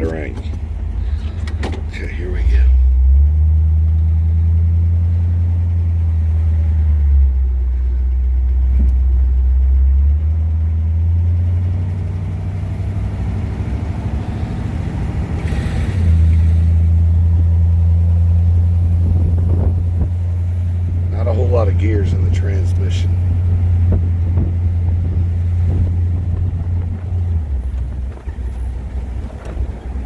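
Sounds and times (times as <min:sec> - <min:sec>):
car engine shifting gears: 0:00.0 - 0:30.0.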